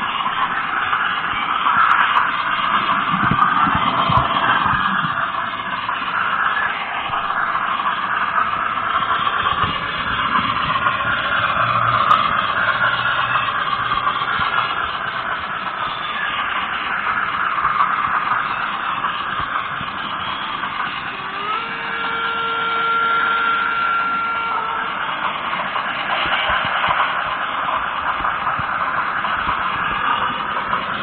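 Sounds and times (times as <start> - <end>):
train running: 0.0 - 31.0.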